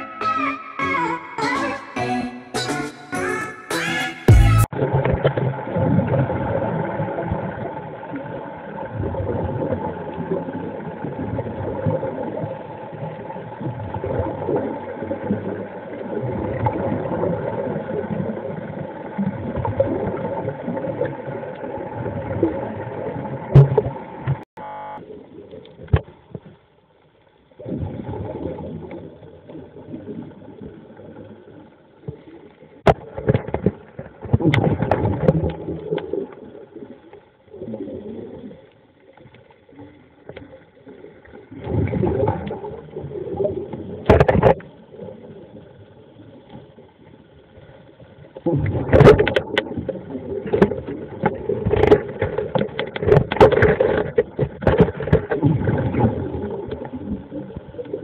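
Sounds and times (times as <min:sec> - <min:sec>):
muffled underwater bubbling: 0:00.0 - 0:26.4, 0:27.6 - 0:58.0.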